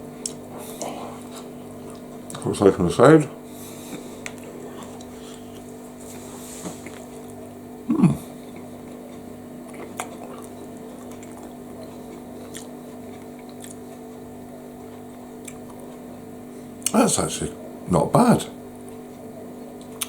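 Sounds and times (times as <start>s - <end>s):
person chewing soft bun: 0.0s - 2.4s, 3.4s - 17.0s, 18.6s - 20.0s
steady background hum: 0.0s - 20.0s.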